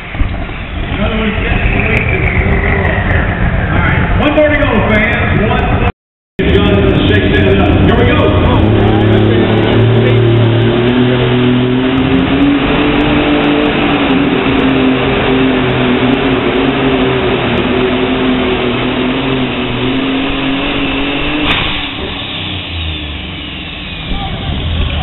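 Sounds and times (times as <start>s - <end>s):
tractor engine running flat out: 0.0s - 5.8s, 6.4s - 25.0s.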